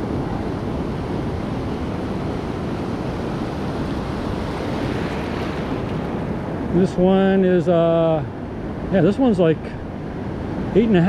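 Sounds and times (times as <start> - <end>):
ocean surf washing: 0.0 - 11.0
wind buffeting microphone: 0.0 - 11.0.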